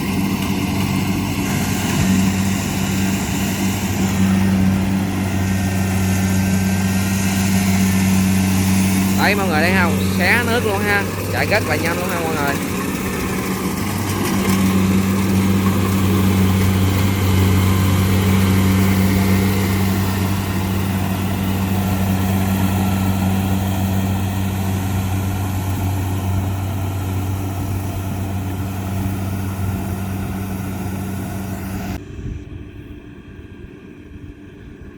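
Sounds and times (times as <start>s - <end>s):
combine harvester diesel engine: 0.0s - 34.9s.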